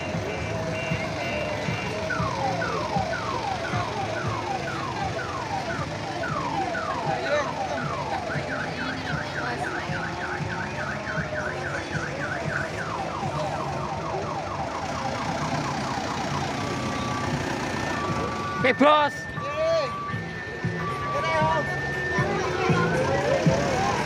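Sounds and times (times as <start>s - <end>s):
electronic siren wailing: 0.0s - 24.0s.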